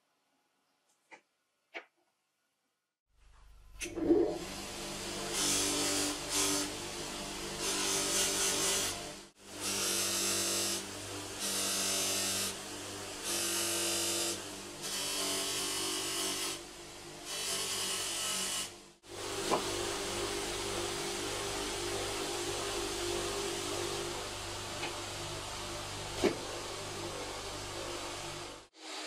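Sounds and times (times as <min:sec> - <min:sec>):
bench grinder motor humming: 0:04.8 - 0:16.6, 0:17.2 - 0:28.7.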